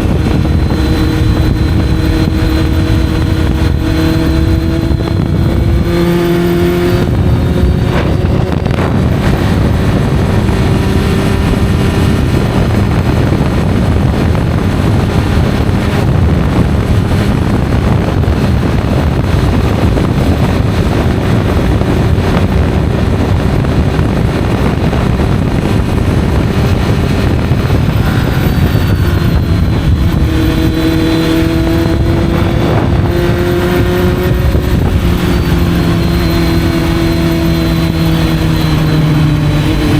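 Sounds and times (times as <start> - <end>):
motorcycle engine: 0.0 - 39.9
steady rushing noise: 0.0 - 39.9.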